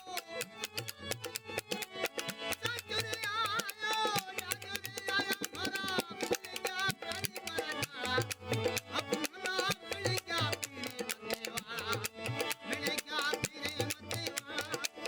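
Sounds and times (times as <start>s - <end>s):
fast clicking percussion: 0.0s - 15.0s.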